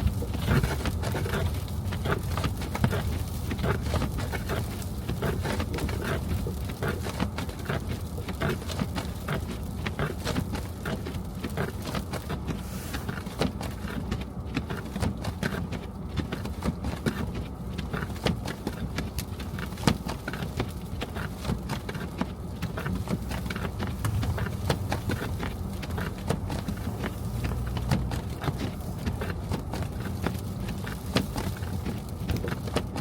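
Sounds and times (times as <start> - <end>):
car driving through slush: 0.0 - 33.0.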